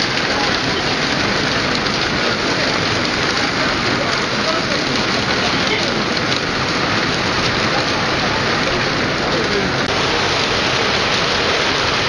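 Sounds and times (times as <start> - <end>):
hail falling on patio: 0.0 - 12.0.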